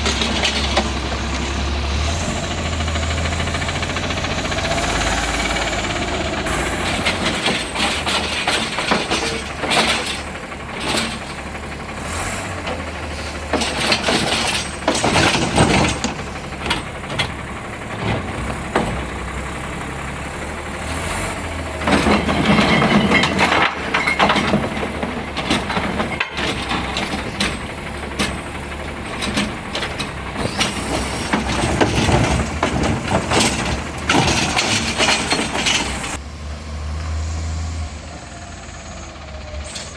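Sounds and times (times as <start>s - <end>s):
carts clanking and banging: 0.0s - 36.2s
garbage truck engine running: 0.0s - 39.9s.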